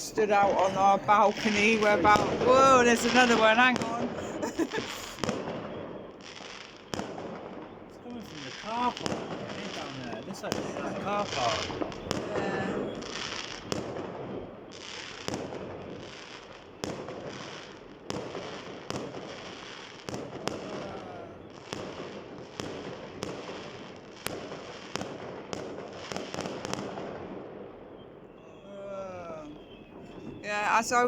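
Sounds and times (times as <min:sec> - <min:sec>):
background fireworks: 0:00.0 - 0:31.0
fireworks bangs: 0:00.0 - 0:31.0.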